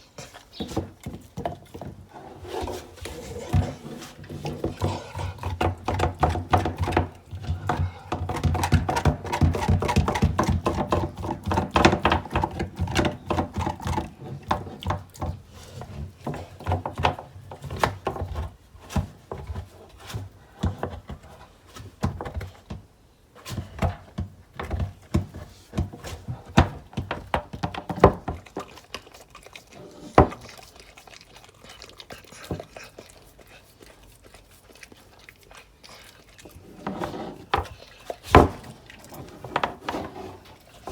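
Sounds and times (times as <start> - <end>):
dog crunching on a bone: 0.2 - 21.9, 24.6 - 40.9.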